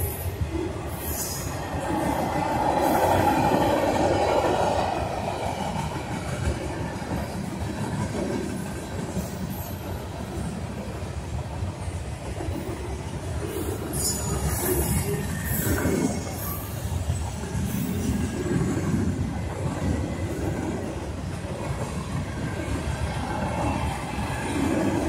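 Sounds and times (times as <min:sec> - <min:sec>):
freight train rolling past: 0:00.0 - 0:25.0
steel wheels on rails: 0:00.0 - 0:25.0.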